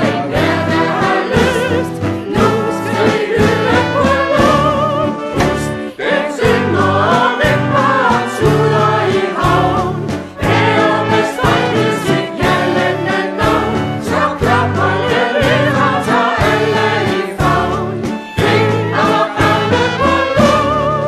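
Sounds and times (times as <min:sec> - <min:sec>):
choir singing a waltz: 0:00.0 - 0:21.0
instrumental accompaniment: 0:00.0 - 0:21.0.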